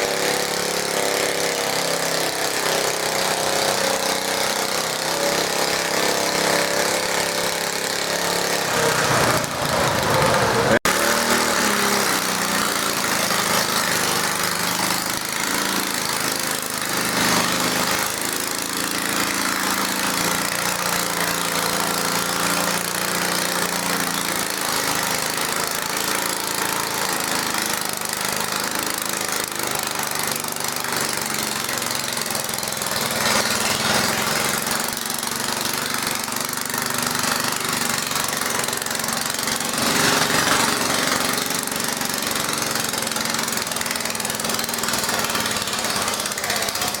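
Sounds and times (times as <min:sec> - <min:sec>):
garden tractor engine running: 0:00.0 - 0:47.0.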